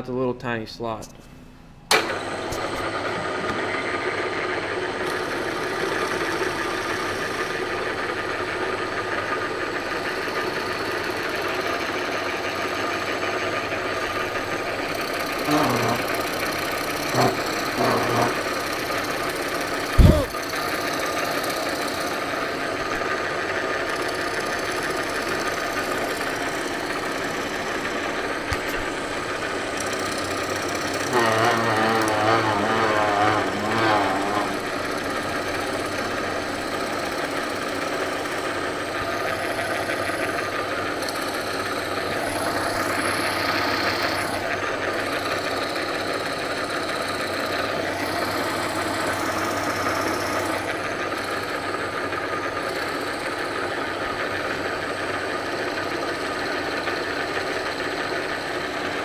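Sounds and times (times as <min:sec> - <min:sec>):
power tool cutting wood: 0:01.9 - 0:58.9.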